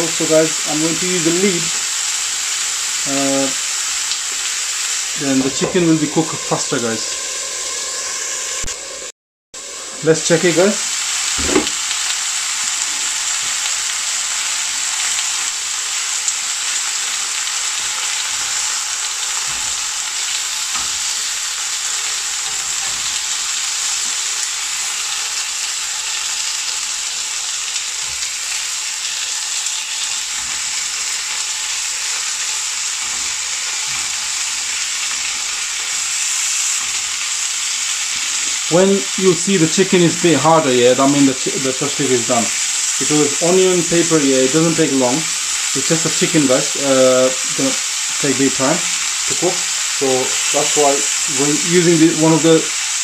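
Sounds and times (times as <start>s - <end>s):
skewers sizzling in a grill pan: 0.0s - 53.0s.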